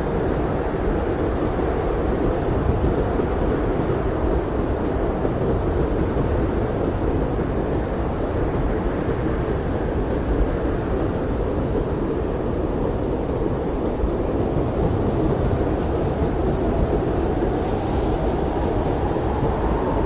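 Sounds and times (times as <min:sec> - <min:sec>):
blizzard wind blowing: 0:00.0 - 0:20.0.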